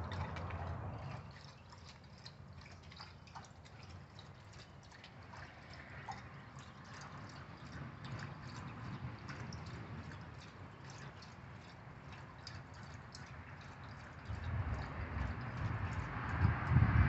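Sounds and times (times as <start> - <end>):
dog lapping water: 0.0 - 17.0.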